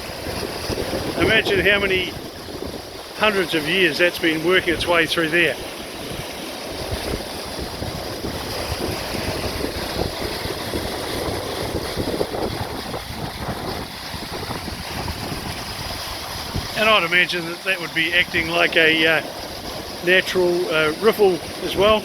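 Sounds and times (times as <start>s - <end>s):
creek rushing: 0.0s - 22.0s
wind buffeting microphone: 0.0s - 22.0s.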